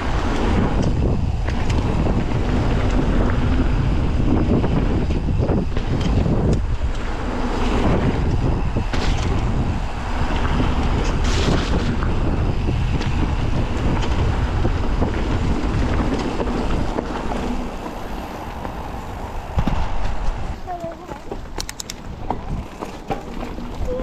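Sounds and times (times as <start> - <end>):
bike clicks and rattles: 0.0 - 24.0
wind buffeting microphone: 0.0 - 24.0.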